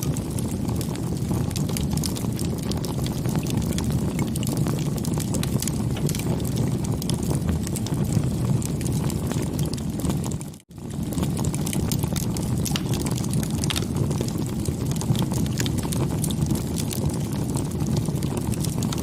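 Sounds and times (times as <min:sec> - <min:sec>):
bonfire flames rushing: 0:00.0 - 0:19.0
fire crackling and popping: 0:00.0 - 0:19.0.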